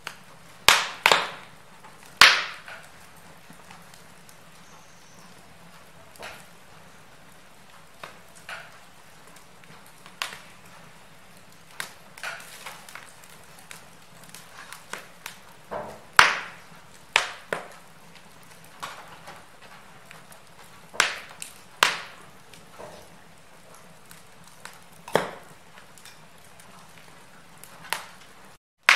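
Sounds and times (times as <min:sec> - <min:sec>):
faint steady hiss: 0:00.0 - 0:28.6
wood fire crackling and popping: 0:00.0 - 0:28.9.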